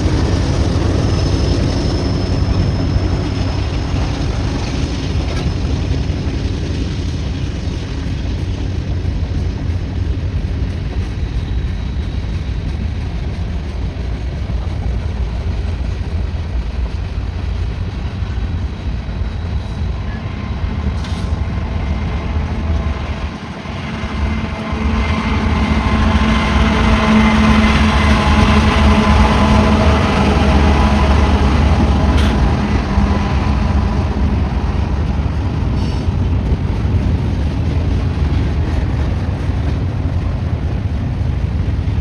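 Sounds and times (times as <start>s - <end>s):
diesel locomotives humming: 0.0s - 42.0s
freight cars rolling rumble: 0.0s - 42.0s.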